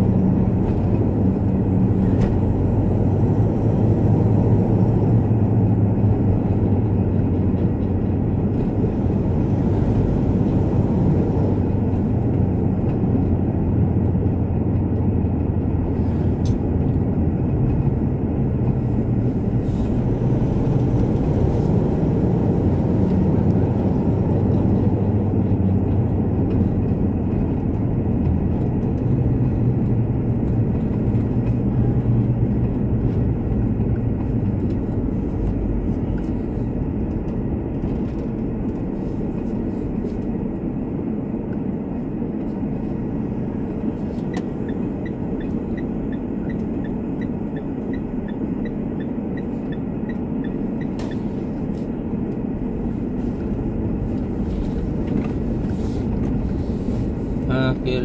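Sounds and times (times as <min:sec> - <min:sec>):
car engine and tyres drone: 0:00.0 - 0:58.0.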